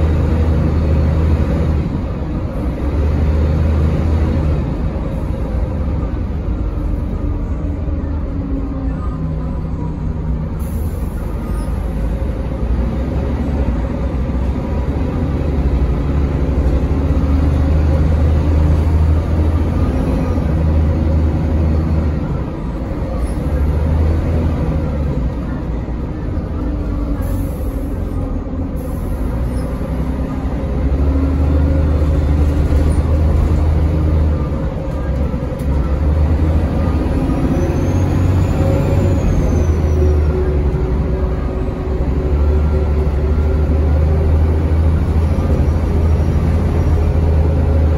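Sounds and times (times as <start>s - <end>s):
bus engine drone: 0.0s - 47.9s
road noise: 0.0s - 47.9s.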